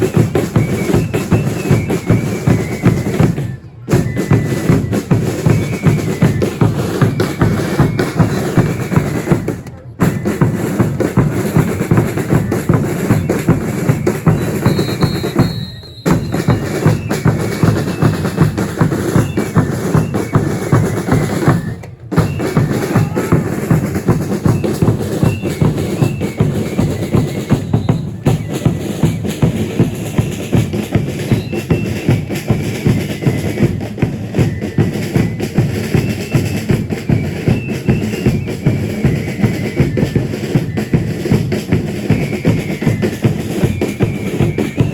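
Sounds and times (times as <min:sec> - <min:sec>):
bass and snare drums beating: 0:00.0 - 0:44.9.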